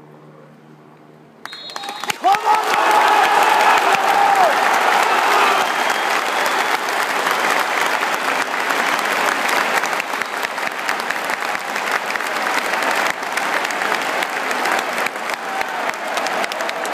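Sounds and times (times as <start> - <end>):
stadium crowd applauding: 1.4 - 16.9.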